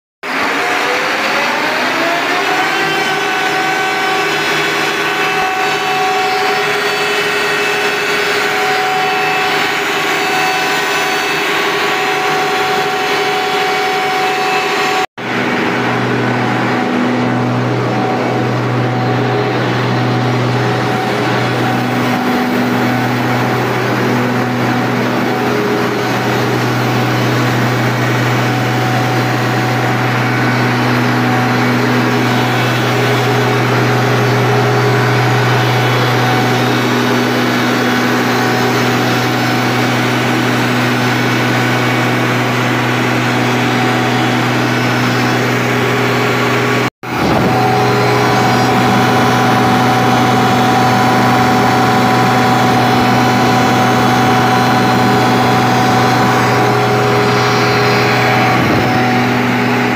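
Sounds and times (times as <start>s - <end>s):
diesel engine running: 0.2s - 59.9s.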